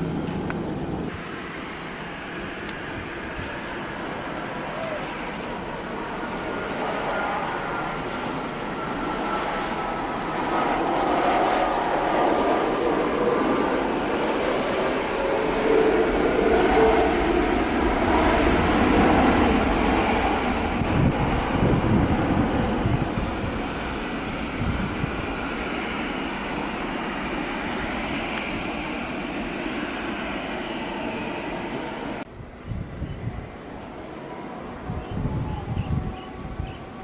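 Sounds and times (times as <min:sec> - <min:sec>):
faint falling jet whine: 0:00.0 - 0:37.0
jet airliner roar: 0:00.0 - 0:37.0.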